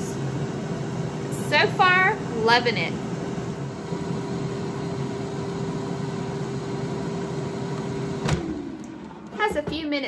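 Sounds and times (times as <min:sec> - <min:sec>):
air fryer fan whirring: 0:00.0 - 0:10.0.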